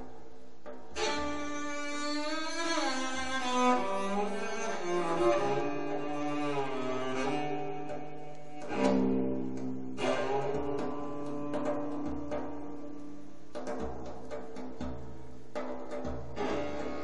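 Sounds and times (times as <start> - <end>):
low sustained strings: 0.0 - 14.2, 16.3 - 17.0
cello melody with gliding notes: 0.0 - 14.4, 16.2 - 17.0.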